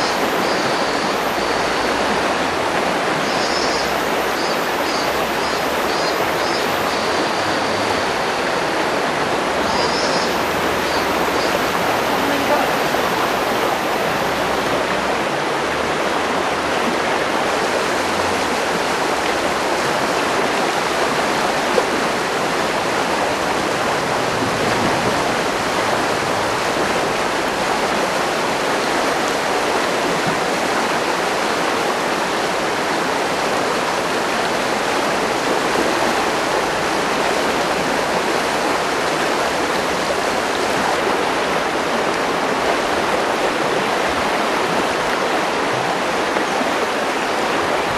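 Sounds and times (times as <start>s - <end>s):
river rushing: 0.0s - 47.9s.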